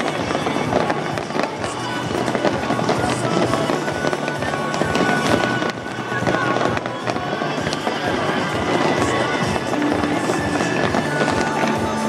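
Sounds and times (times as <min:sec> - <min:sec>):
fireworks crackling and popping: 0:00.0 - 0:12.0
music playing: 0:00.0 - 0:12.0.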